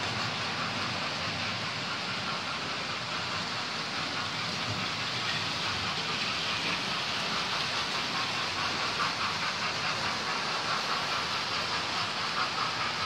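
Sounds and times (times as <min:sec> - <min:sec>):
model train motor hiss: 0:00.0 - 0:13.0
wheels clicking over rail joints: 0:00.1 - 0:13.0.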